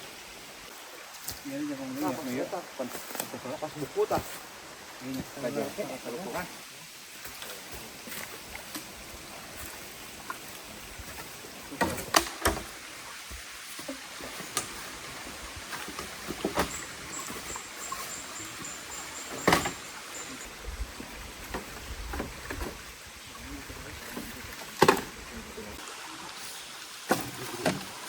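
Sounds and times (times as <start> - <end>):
rain hissing: 0.0 - 28.0.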